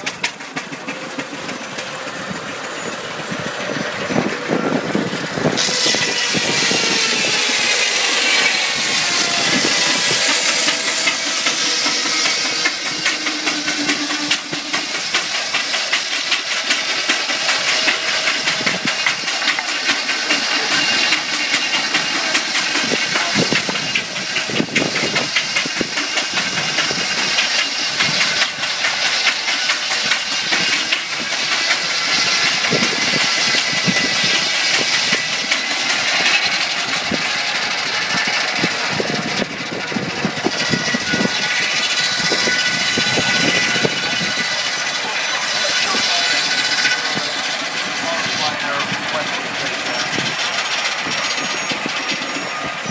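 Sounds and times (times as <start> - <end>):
steam engine running: 0.0 - 52.9
steam hissing: 0.0 - 52.9.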